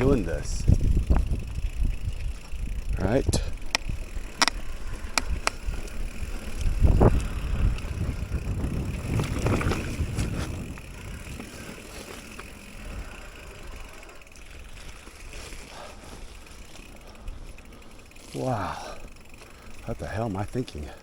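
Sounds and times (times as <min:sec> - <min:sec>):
bike rattles: 0:00.0 - 0:21.0
bike tyres rolling on mud: 0:00.0 - 0:21.0.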